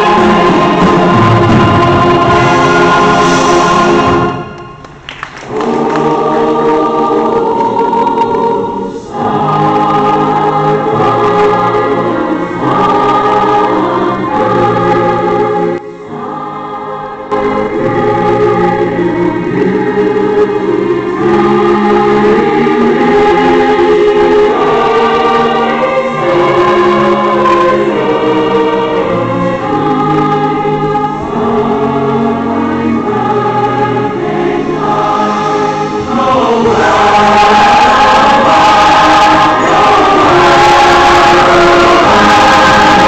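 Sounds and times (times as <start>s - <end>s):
choir singing sustained chords: 0.0s - 43.0s.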